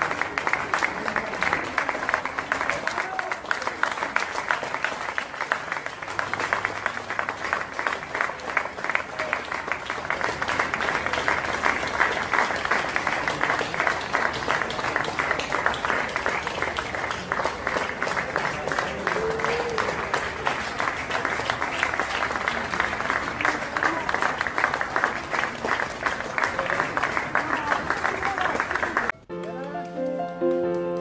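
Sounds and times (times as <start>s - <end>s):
crowd applauding: 0.0s - 31.0s.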